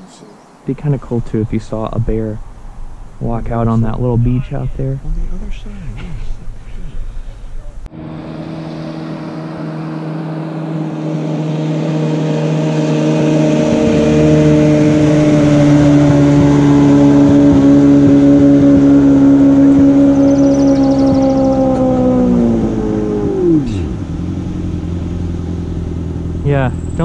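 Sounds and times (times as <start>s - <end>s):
outboard motor running: 2.0s - 27.0s.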